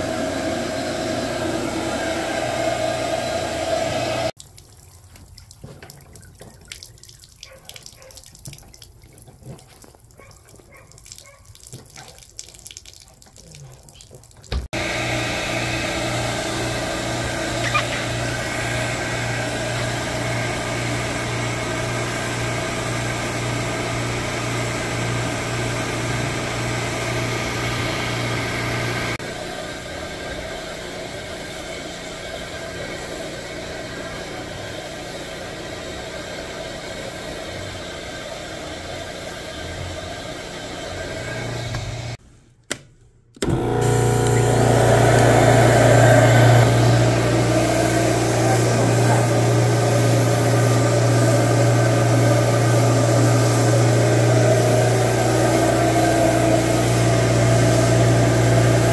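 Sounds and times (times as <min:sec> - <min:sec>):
carpet extractor droning: 0:00.0 - 0:04.4, 0:14.7 - 0:42.2, 0:43.4 - 0:58.9.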